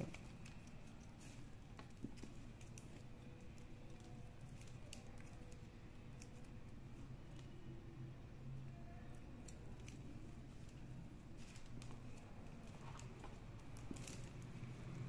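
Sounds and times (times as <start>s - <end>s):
plastic wire clicking and rustling: 0.0s - 7.6s, 9.1s - 14.7s.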